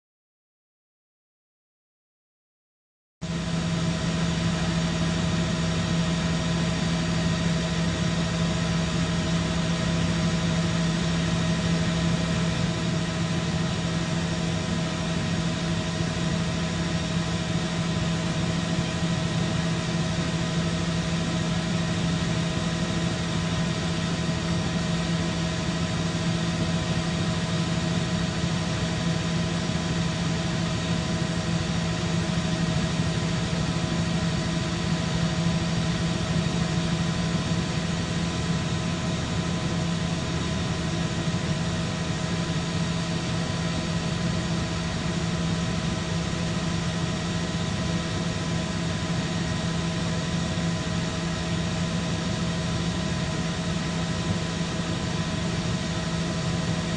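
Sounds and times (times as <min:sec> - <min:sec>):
helicopter engine and rotor drone: 0:03.2 - 0:56.9.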